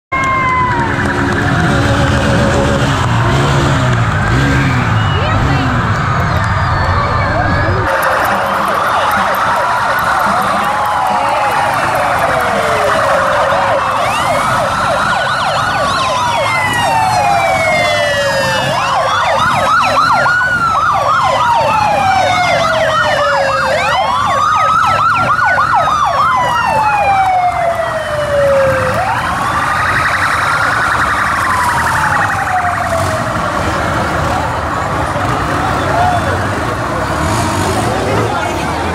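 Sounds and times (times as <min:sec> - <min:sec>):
yelping siren: 0:00.1 - 0:36.6
wailing police sirens: 0:00.1 - 0:38.9.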